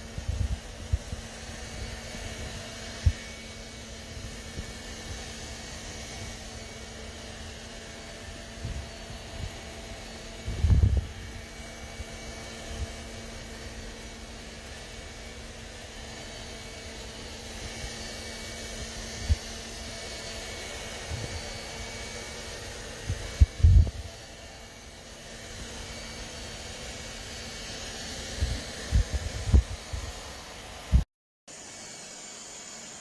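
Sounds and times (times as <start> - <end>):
robot vacuum fan humming: 0.0 - 33.0.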